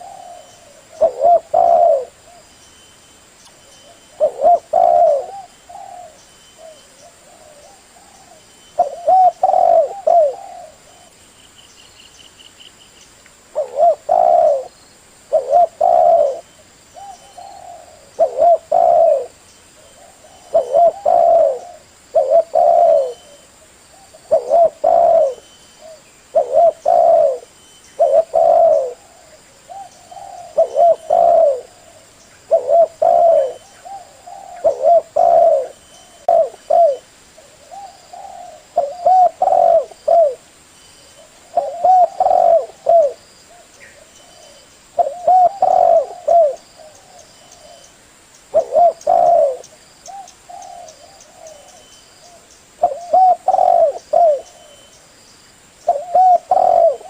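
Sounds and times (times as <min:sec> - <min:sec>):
dove cooing: 0:00.0 - 0:02.5, 0:03.8 - 0:11.1, 0:13.5 - 0:40.4, 0:41.1 - 0:47.9, 0:48.5 - 0:54.9, 0:55.8 - 0:57.0.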